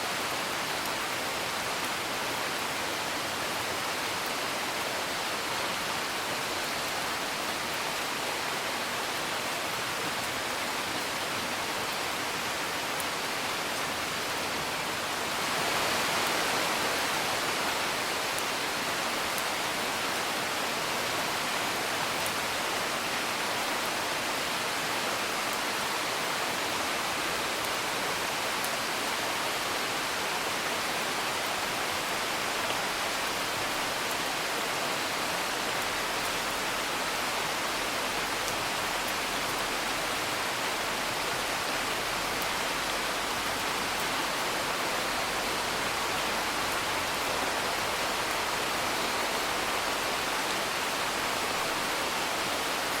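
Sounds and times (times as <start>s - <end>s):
rain heard from indoors: 0.0s - 53.0s.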